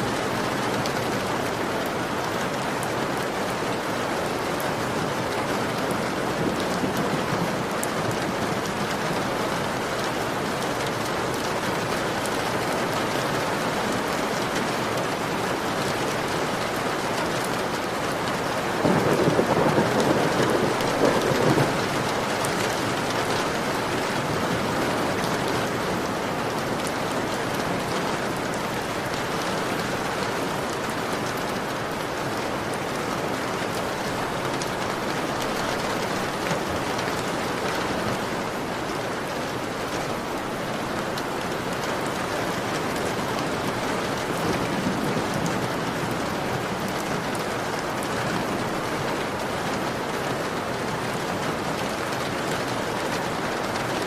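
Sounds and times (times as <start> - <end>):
heavy rain on a window: 0.0 - 54.0.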